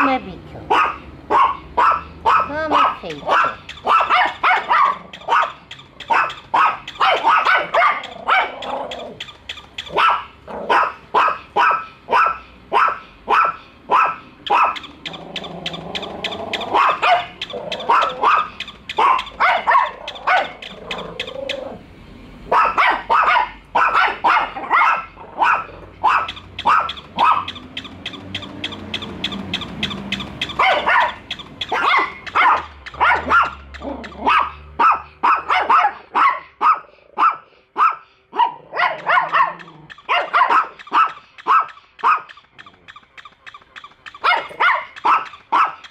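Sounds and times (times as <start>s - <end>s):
small dogs yapping: 0.6s - 45.9s.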